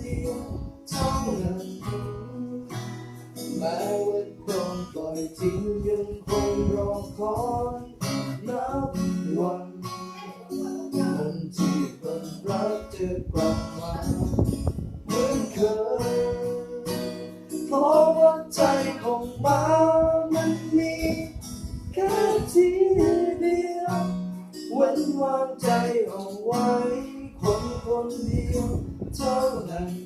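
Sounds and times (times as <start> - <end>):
acoustic guitar strumming: 0.0 - 30.0
person singing a slow ballad: 0.0 - 30.0.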